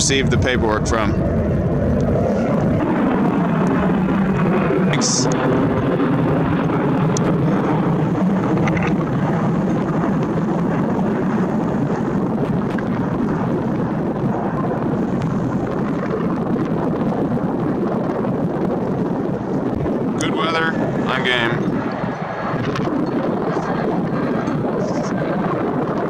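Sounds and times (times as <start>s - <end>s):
gusty wind buffeting microphone: 0.0s - 26.0s.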